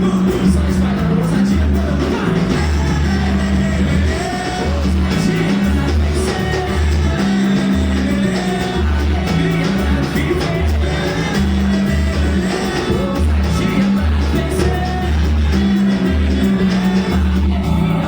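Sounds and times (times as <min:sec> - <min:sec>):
band playing: 0:00.0 - 0:18.0
person singing: 0:00.0 - 0:18.0
pulsing bass line: 0:00.0 - 0:18.0.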